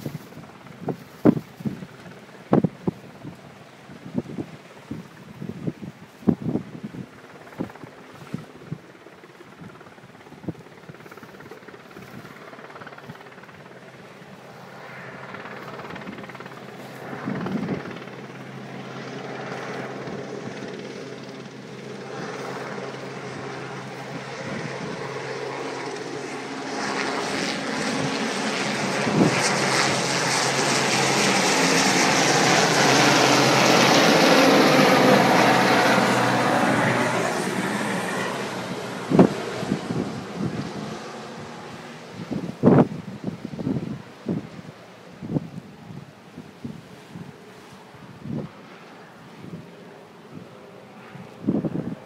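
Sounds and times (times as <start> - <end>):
helicopter rotor and engines droning: 0.0 - 52.0.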